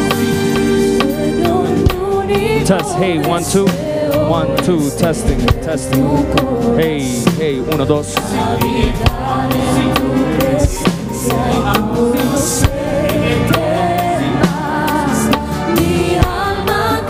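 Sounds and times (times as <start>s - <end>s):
drum kit beat: 0.0s - 17.0s
guitar: 0.0s - 17.0s
keyboard: 0.0s - 17.0s
person singing: 0.8s - 17.0s.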